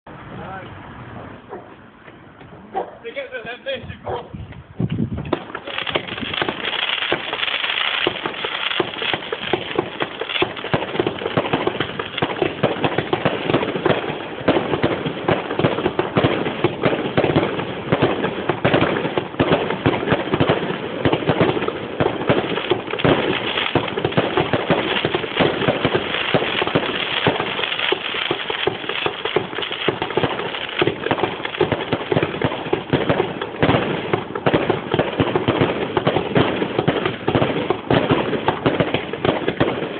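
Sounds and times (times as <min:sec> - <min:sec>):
fireworks barrage of bangs: 0:04.8 - 0:39.9.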